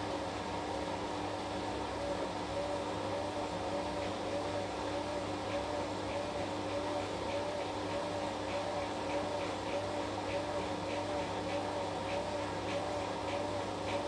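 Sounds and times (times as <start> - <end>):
washing machine running: 2.4 - 14.0.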